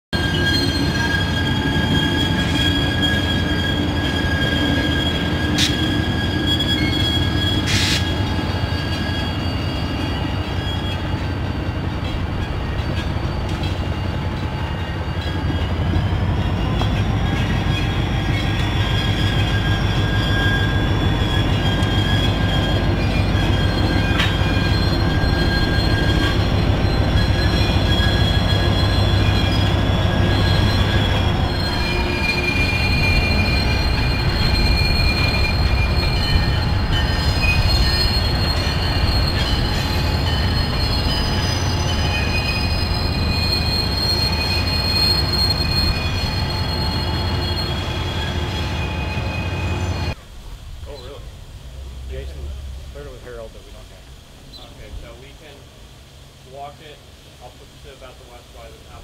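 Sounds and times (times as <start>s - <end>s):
diesel locomotive engines droning: 0.1s - 59.0s
wheels squealing on rails: 0.1s - 59.0s.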